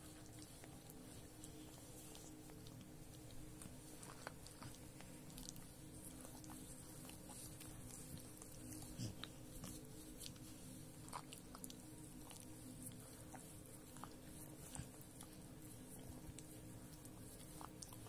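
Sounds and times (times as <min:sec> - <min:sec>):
dog licking and chewing: 0:00.0 - 0:18.0.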